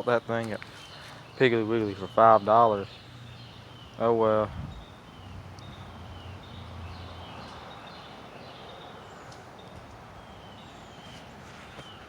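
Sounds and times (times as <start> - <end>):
birds chirping: 0.0 - 12.0
outdoor background hiss: 0.0 - 12.0.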